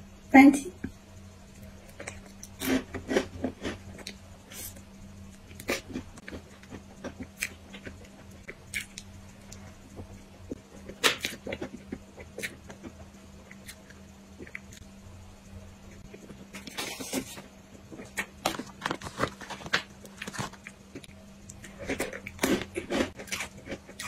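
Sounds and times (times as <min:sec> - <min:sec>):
chewing soft pastry: 0:01.4 - 0:24.0.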